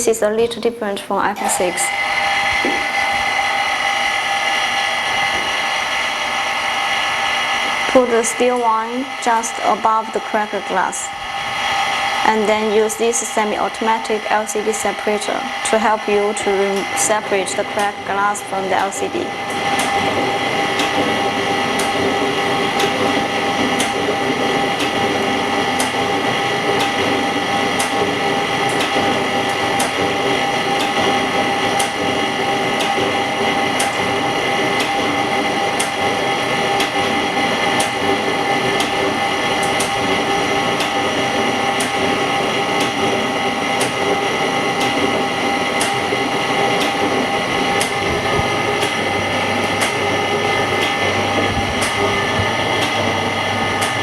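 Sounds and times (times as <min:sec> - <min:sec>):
machine motor whirring: 0:00.0 - 0:54.0.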